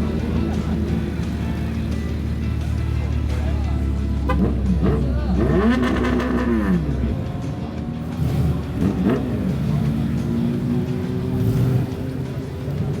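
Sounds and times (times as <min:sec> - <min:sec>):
car engine revving and accelerating: 0:00.0 - 0:13.0
music playing: 0:00.0 - 0:13.0.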